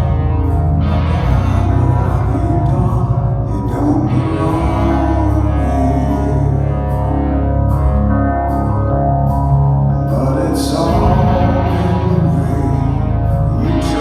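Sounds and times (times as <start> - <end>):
person singing: 0.0 - 14.0
rock band playing: 0.0 - 14.0.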